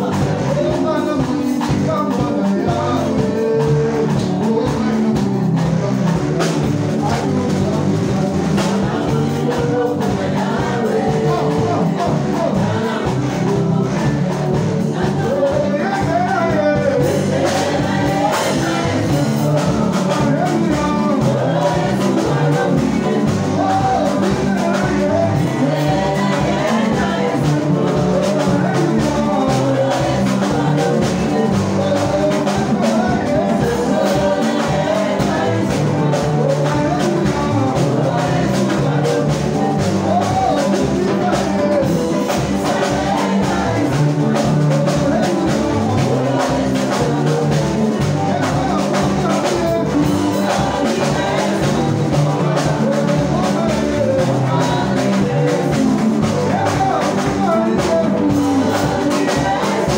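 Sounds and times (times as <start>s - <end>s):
amplified band with drums: 0.0s - 59.9s
singers on microphones: 0.0s - 59.9s.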